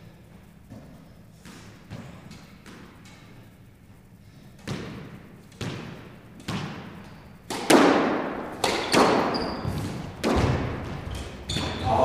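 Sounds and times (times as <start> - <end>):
squash ball knocks in echoing court: 0.7 - 3.5, 4.6 - 12.0.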